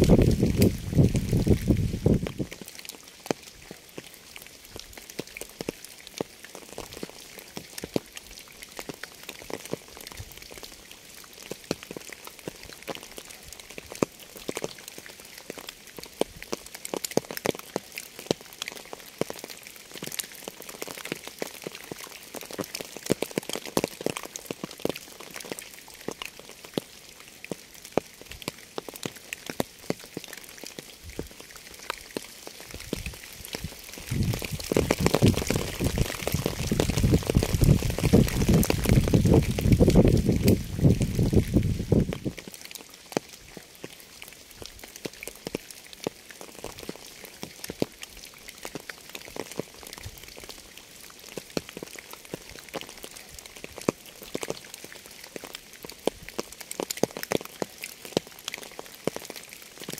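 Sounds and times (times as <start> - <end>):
rain drops striking: 0.0 - 59.9.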